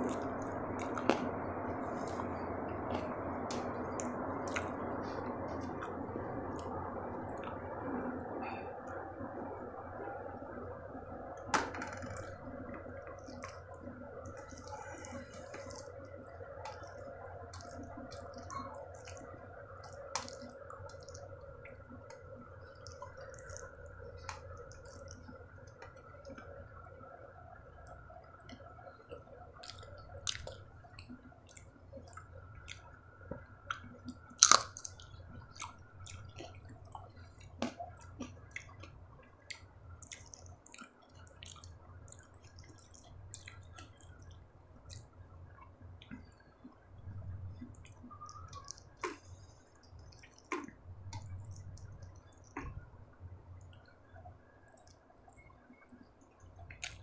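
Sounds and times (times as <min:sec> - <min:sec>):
mouth smacks and chewing: 0:00.0 - 0:07.6, 0:13.1 - 0:26.5, 0:28.5 - 0:46.8, 0:47.6 - 0:52.8, 0:54.6 - 0:55.6, 0:56.6 - 0:57.0
faint steady hum: 0:00.0 - 0:57.0.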